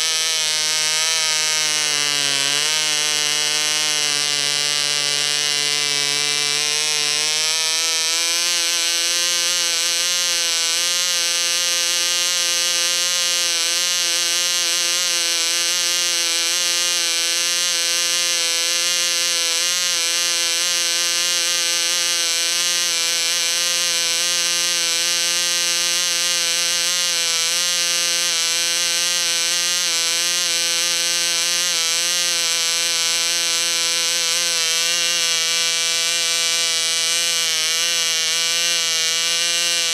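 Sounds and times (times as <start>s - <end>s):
small diesel engine buzzing: 0.0s - 39.9s.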